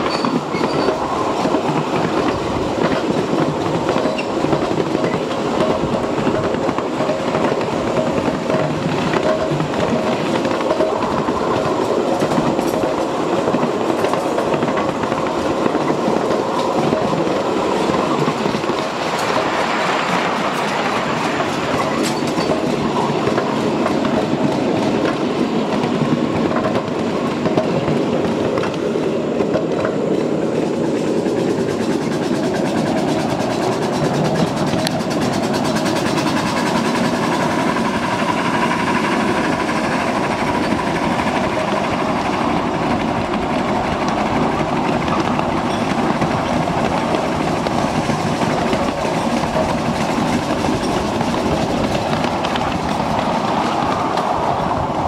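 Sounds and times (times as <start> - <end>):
small wheels rumbling on rail: 0.0 - 55.0.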